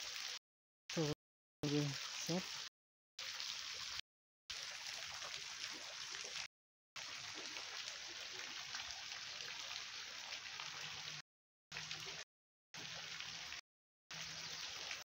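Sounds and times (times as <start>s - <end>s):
running water splashing: 0.0s - 12.2s.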